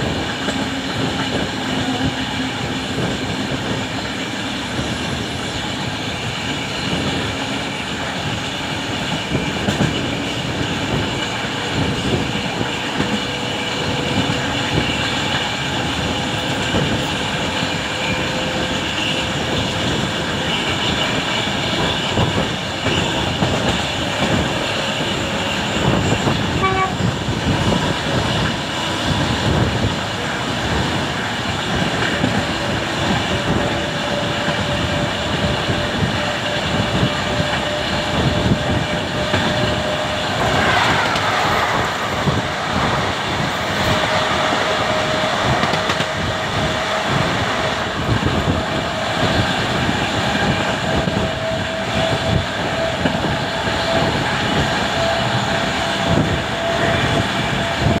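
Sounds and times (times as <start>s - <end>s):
passing train rush: 0.0s - 58.0s
train wheels on rails: 0.0s - 58.0s.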